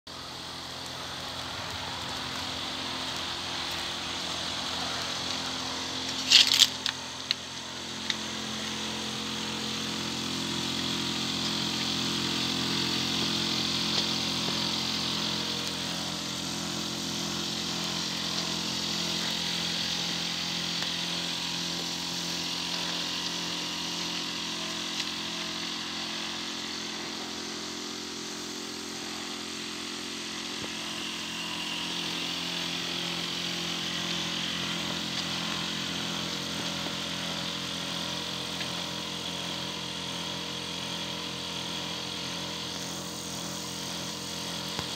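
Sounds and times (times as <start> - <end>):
fan air rush: 0.1 - 44.9
heat pump hum: 0.1 - 44.9.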